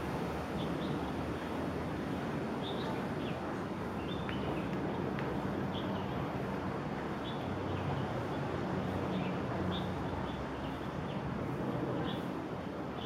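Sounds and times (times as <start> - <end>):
distant traffic hum: 0.0 - 13.0.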